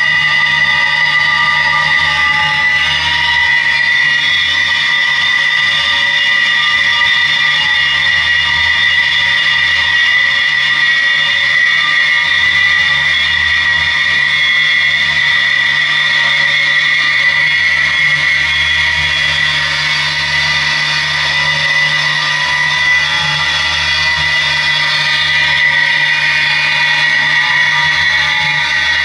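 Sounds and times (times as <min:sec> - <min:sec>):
ambient electric guitar drone: 0:00.0 - 0:29.0.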